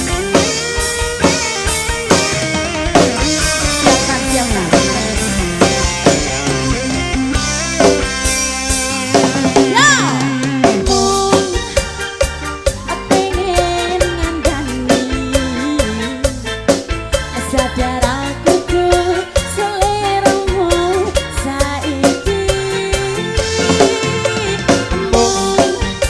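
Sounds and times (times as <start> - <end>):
drum and percussion beat: 0.0 - 26.0
live dance band music: 0.0 - 26.0.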